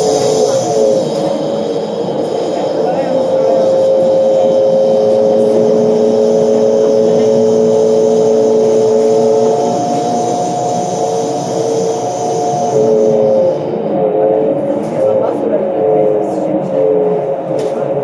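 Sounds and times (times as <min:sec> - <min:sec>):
bus engine whine: 0:00.0 - 0:18.0.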